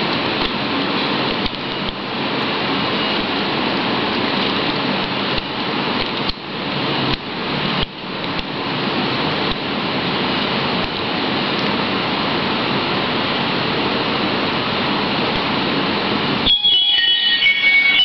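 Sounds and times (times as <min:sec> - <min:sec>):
loud background hiss: 0:00.0 - 0:18.0.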